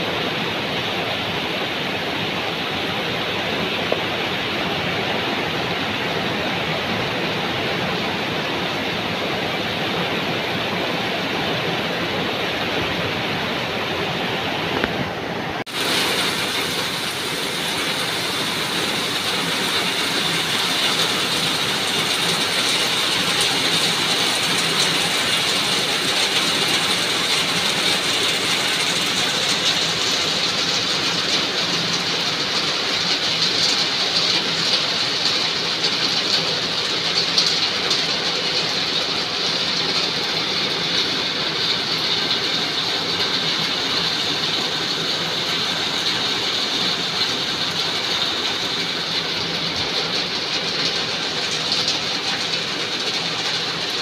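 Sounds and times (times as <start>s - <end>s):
heavy rain on trees and ground: 0.0s - 54.0s.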